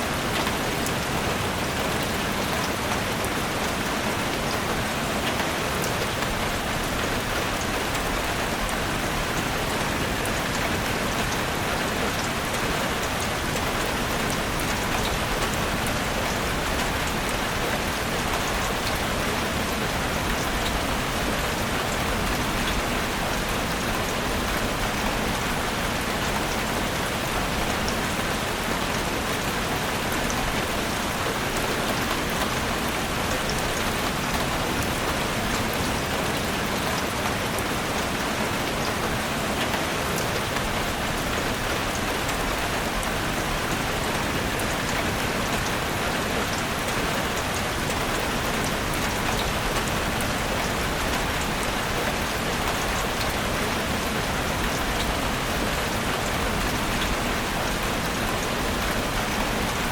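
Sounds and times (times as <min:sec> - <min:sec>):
rain patter on leaves: 0:00.0 - 0:59.9.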